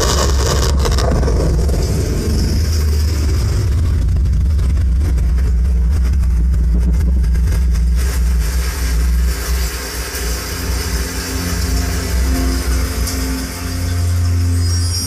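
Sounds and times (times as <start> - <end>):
deep subwoofer bass rumble: 0.0 - 15.0.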